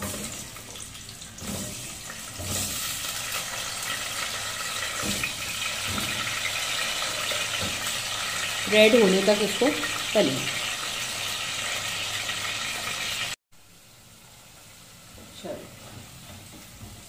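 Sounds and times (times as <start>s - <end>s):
potatoes sizzling in hot oil: 0.0s - 17.0s.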